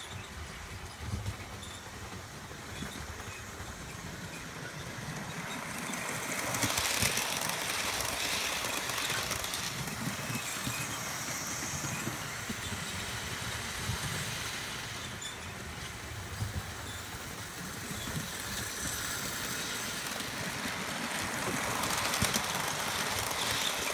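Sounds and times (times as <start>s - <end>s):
model train wheels clicking: 0.0s - 23.9s.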